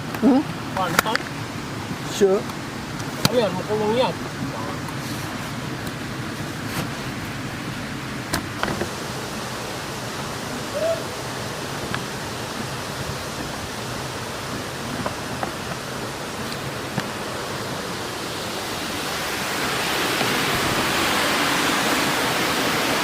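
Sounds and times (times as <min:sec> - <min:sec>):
water rushing through weir: 0:00.0 - 0:23.0.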